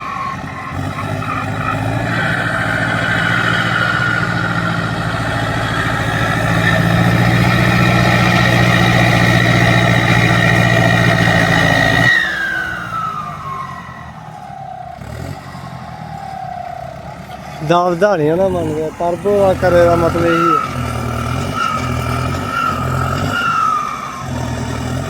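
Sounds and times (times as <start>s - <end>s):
diesel tractor engine revving: 0.0s - 25.0s.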